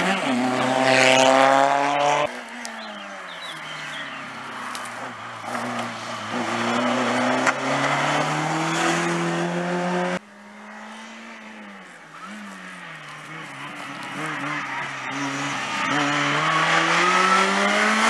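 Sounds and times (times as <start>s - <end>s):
car engine revving hard: 0.0s - 2.3s, 3.7s - 18.0s
car engine slowing and accelerating: 0.0s - 18.0s.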